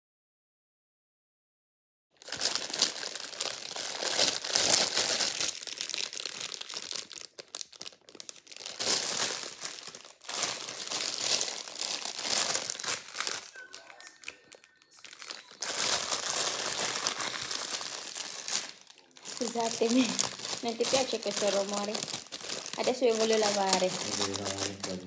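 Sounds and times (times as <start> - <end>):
plastic bag crinkling: 2.2 - 25.0.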